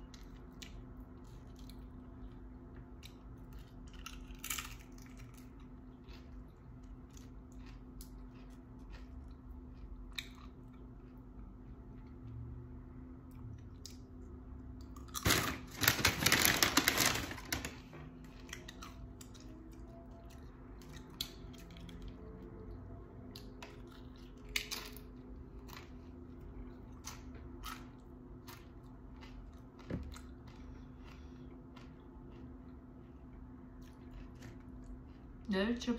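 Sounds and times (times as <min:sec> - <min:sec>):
crunching tortilla chips: 0:00.0 - 0:12.2, 0:14.8 - 0:22.4, 0:23.3 - 0:35.4.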